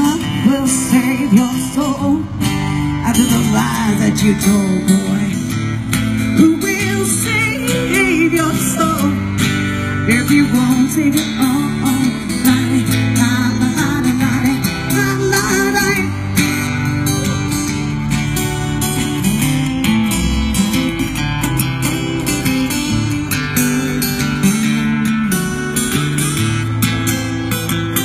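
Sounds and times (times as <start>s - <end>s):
live band guitar instrumental: 0.0s - 28.0s.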